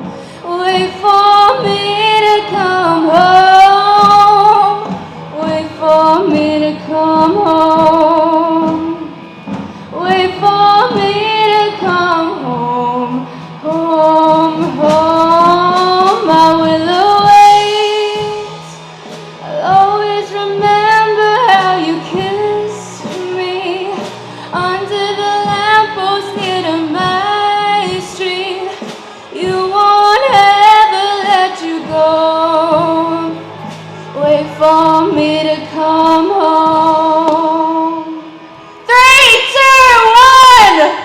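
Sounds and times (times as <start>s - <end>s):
woman singing long bending notes: 0.0s - 9.1s, 9.8s - 18.8s, 19.4s - 41.0s
steady low musical backing: 0.0s - 41.0s.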